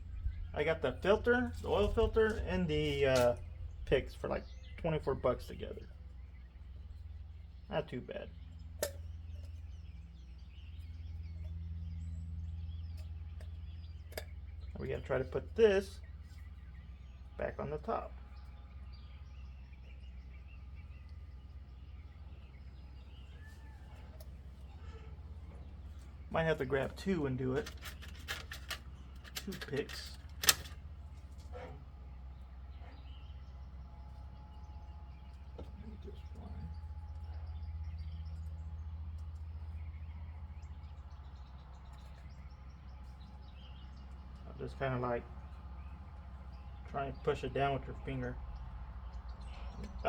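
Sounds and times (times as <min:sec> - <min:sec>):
faint birds chirping: 0:00.0 - 0:50.0
low background hum: 0:00.0 - 0:50.0.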